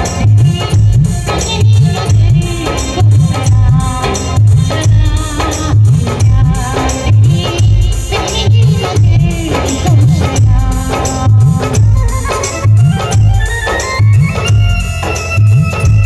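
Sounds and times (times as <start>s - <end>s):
band music over loudspeakers: 0.0s - 16.0s
deep bass thumps: 0.0s - 16.0s.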